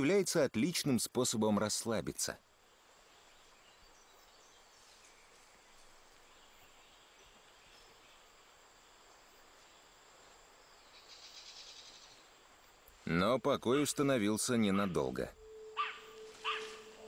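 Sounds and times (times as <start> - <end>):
high insect whine: 2.4 - 17.0
faint chirps: 2.6 - 17.0.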